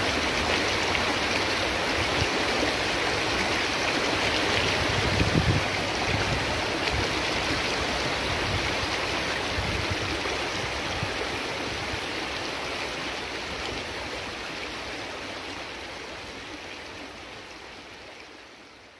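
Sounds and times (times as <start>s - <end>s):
creek water flowing: 0.0s - 18.9s.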